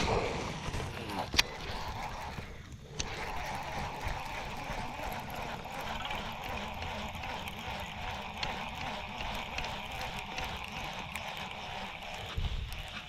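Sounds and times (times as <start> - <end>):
water lapping and gurgling: 0.0 - 13.0.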